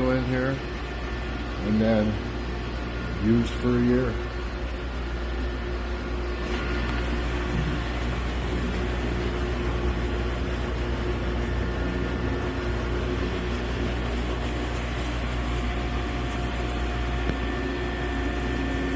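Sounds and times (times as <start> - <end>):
kitchen equipment hum and whir: 0.0 - 18.9.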